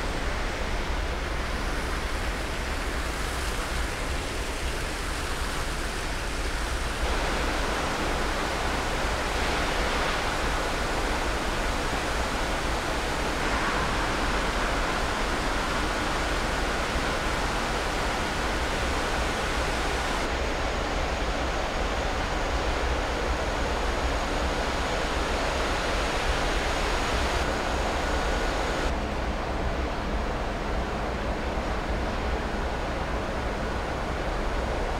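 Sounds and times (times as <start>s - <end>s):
ventilation fans rushing: 0.0s - 34.9s.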